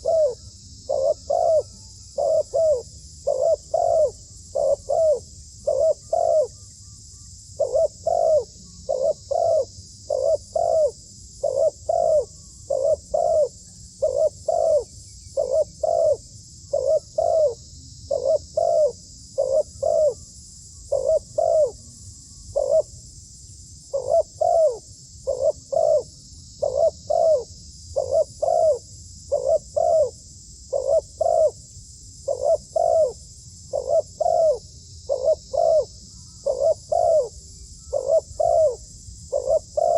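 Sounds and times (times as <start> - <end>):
dove cooing: 0.0 - 6.6, 7.6 - 20.3, 20.9 - 21.9, 22.5 - 22.9, 23.9 - 31.6, 32.2 - 39.9.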